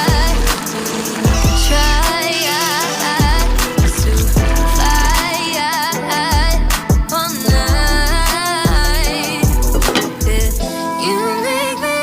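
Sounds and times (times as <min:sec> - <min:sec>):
pop song with sung vocal: 0:00.0 - 0:12.0.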